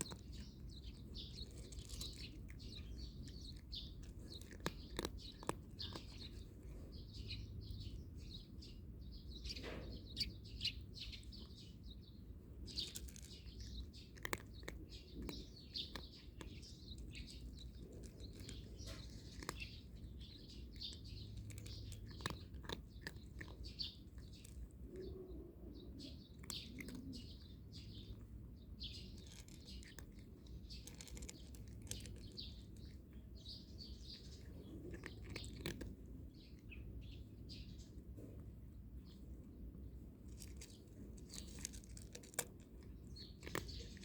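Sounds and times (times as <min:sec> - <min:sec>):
cat crunching dry kibble: 0:00.0 - 0:09.0, 0:09.6 - 0:25.2, 0:25.9 - 0:44.0
small birds chirping: 0:00.0 - 0:44.0.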